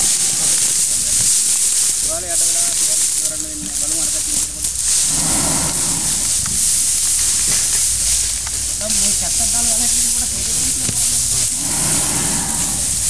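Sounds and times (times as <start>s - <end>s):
insect chorus hissing: 0.0s - 13.0s
low murmured voices: 0.0s - 13.0s.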